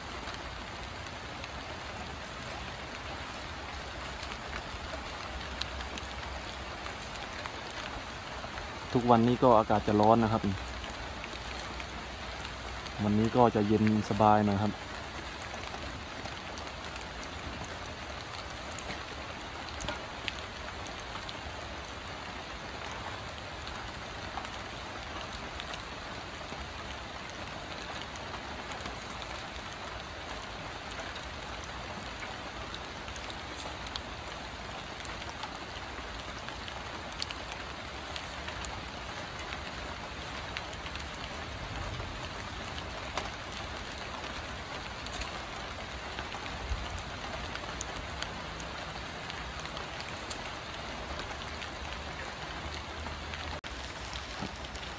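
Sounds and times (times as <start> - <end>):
rain falling steadily: 0.0 - 54.9.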